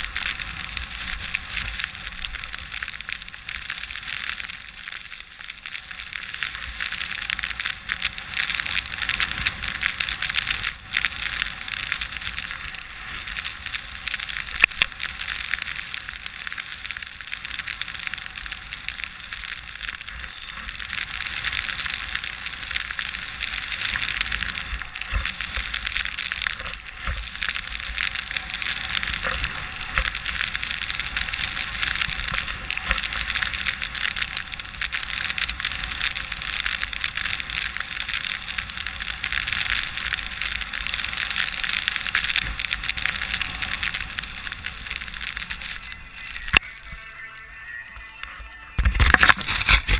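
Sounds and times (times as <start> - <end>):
skis scraping over snow: 0.0 - 49.9.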